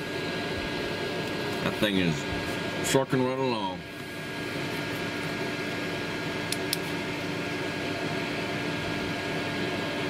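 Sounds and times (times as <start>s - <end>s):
electric fans rushing: 0.0s - 10.0s.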